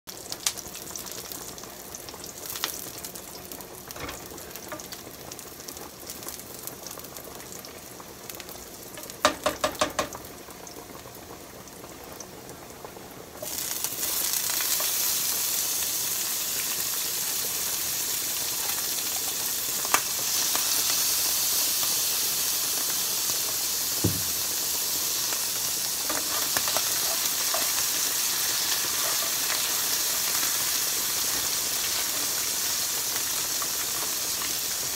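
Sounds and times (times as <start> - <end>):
meat and onion frying: 0.1 - 34.9.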